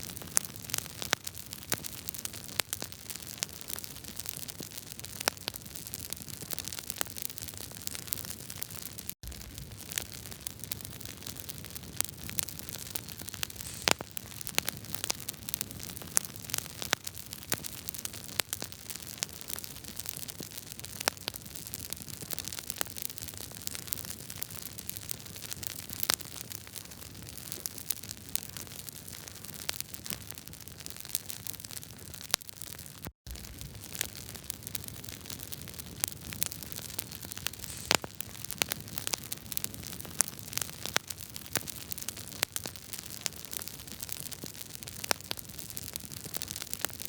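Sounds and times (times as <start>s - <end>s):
wood fire crackling: 0.1s - 47.0s.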